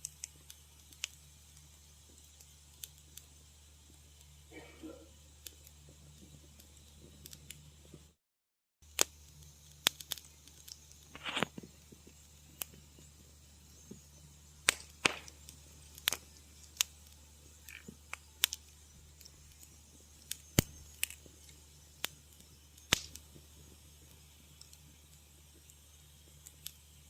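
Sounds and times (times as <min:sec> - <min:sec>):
wood fire crackling: 0:00.0 - 0:08.2, 0:08.8 - 0:27.0.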